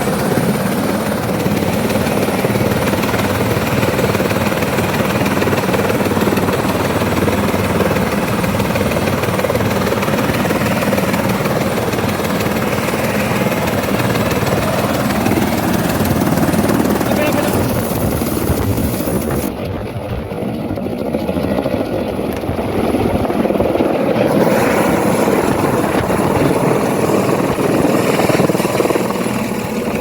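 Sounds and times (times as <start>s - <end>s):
helicopter rotor beating drone: 0.0s - 30.0s.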